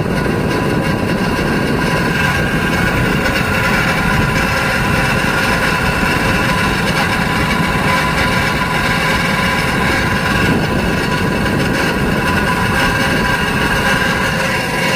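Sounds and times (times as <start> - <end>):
fan motor running with whining tones: 0.0 - 14.9.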